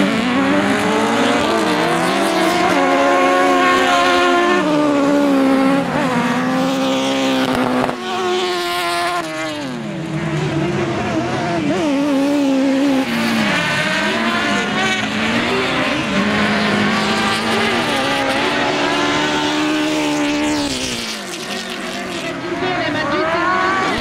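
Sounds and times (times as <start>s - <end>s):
buggy engines revving: 0.0s - 24.0s.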